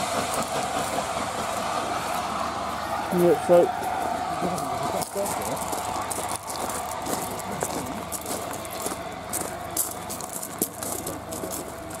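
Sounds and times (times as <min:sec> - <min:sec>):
crowd talking: 0:01.8 - 0:12.0
footsteps on gravel: 0:02.1 - 0:12.0.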